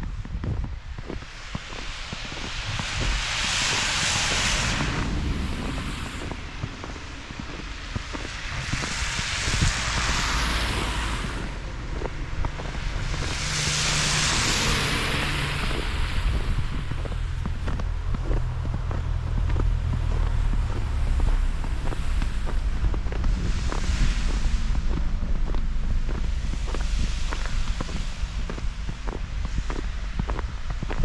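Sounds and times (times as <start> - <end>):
low engine rumble: 0.0 - 31.0
tyres hissing on wet snow: 0.2 - 31.0.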